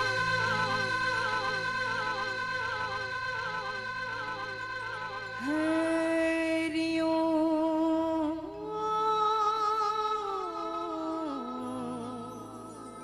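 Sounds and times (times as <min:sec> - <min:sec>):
woman singing long held notes: 0:00.0 - 0:13.0.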